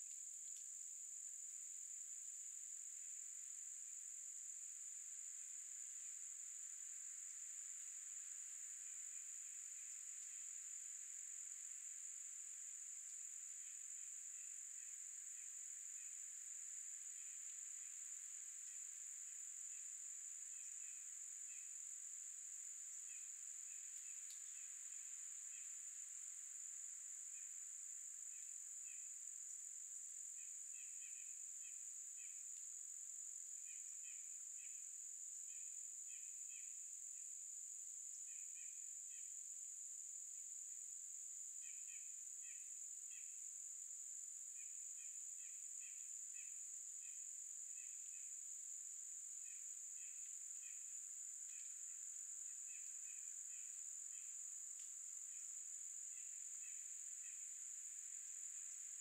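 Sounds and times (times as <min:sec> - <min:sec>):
insect chorus drone: 0:00.0 - 0:59.0.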